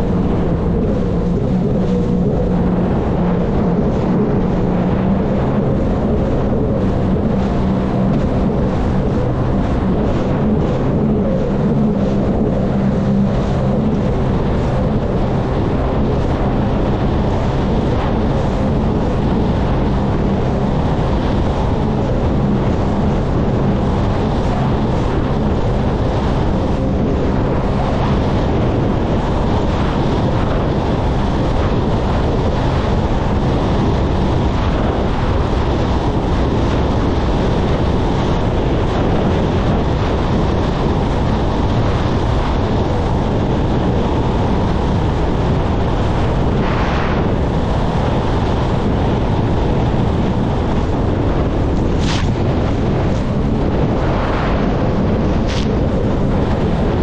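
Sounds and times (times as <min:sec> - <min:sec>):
low drone of boat engines: 0:00.0 - 0:57.0
rush of churning wake: 0:00.0 - 0:57.0
wind buffeting microphone: 0:00.0 - 0:57.0.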